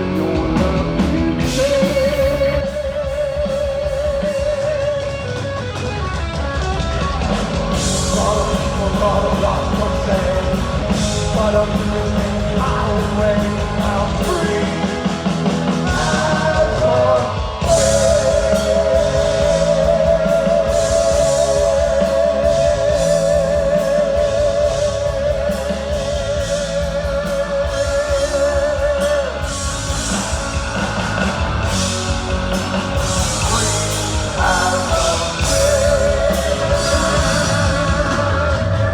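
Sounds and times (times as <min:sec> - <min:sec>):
bass: 0:00.0 - 0:38.9
distorted guitars: 0:00.0 - 0:38.9
drums: 0:00.0 - 0:38.9.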